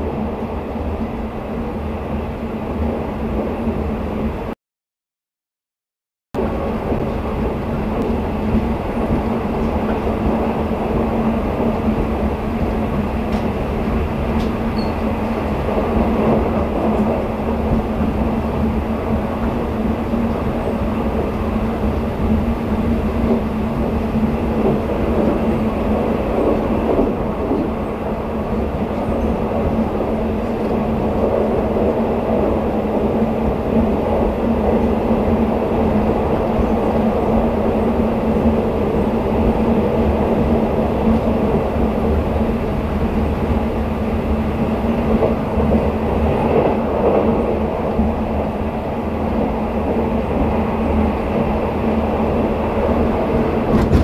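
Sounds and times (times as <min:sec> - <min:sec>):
train wheel-on-rail rumble: 0:00.0 - 0:04.6, 0:06.4 - 0:54.0.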